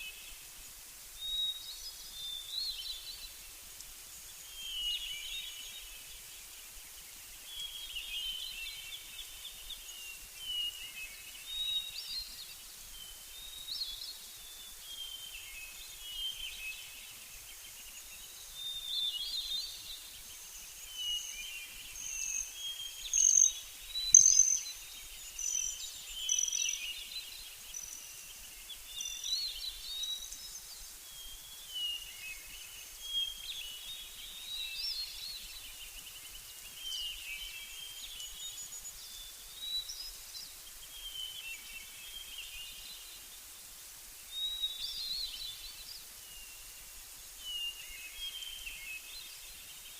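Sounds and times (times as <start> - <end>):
small birds chirping and trilling: 0.0 - 43.5.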